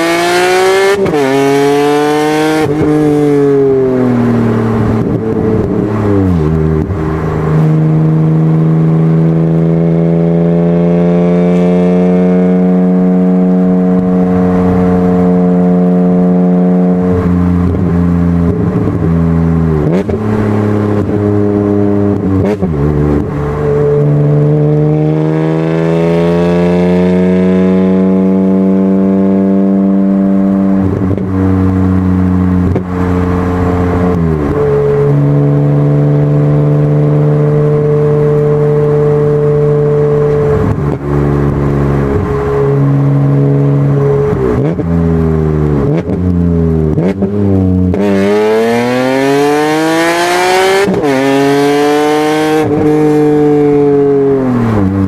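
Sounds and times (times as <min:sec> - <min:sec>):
car exhaust: 0:00.0 - 0:10.3, 0:11.4 - 0:55.0
car engine revving: 0:00.0 - 0:55.0.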